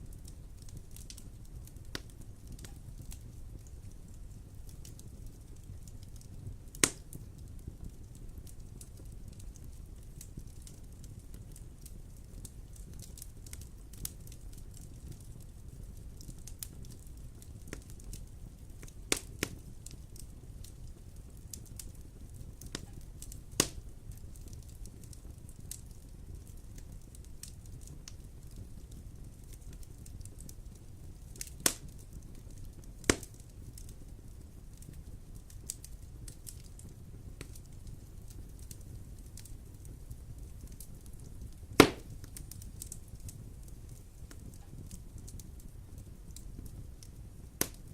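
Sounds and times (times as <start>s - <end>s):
wood fire crackling: 0.0s - 47.9s
sharp fire pops: 0.1s - 47.9s.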